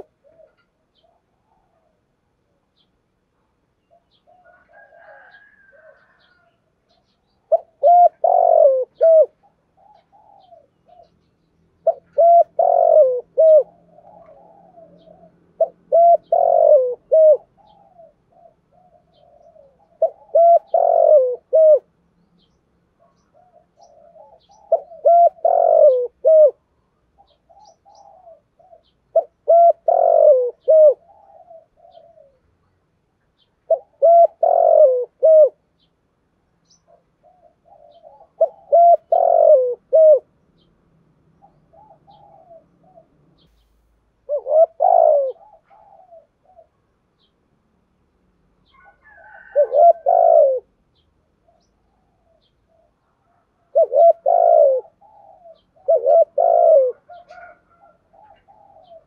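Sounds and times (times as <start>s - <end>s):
dove cooing: 0.0s - 2.8s, 3.4s - 32.7s, 33.4s - 35.9s, 36.6s - 47.3s, 48.6s - 59.0s.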